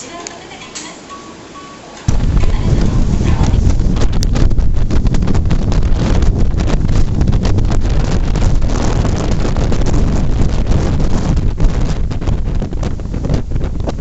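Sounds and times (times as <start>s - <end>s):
irregular thumps: 2.1s - 14.0s
wind buffeting microphone: 2.1s - 14.0s.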